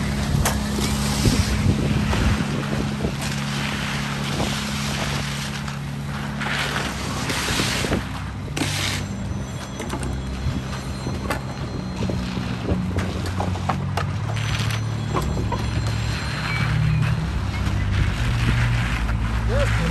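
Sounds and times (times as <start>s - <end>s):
heavy machinery engine running: 0.0s - 19.9s.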